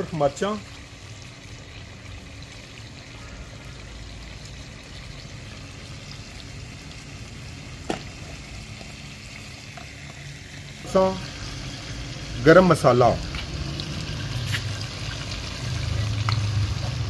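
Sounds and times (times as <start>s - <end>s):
chicken simmering bubbling hiss: 0.0s - 17.0s.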